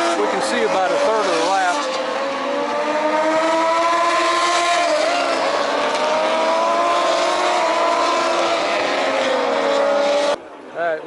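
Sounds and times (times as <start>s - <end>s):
racing motorcycle engines: 0.0s - 10.4s.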